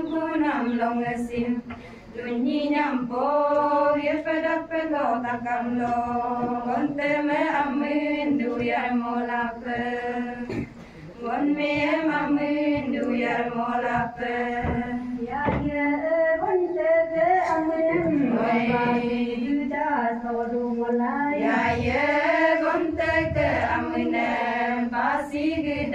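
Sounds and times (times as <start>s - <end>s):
women singing together: 0.0s - 25.9s.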